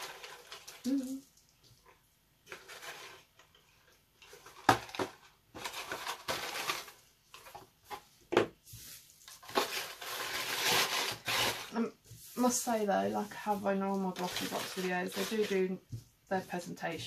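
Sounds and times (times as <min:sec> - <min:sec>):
cardboard rustling and scraping: 0:02.5 - 0:17.0.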